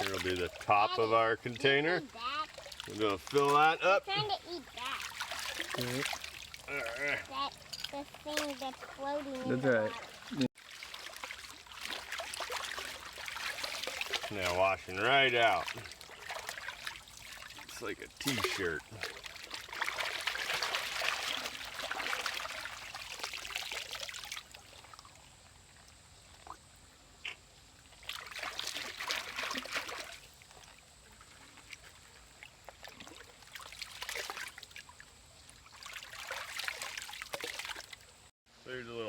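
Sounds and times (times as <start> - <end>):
water splashing and trickling: 0.0 - 38.3.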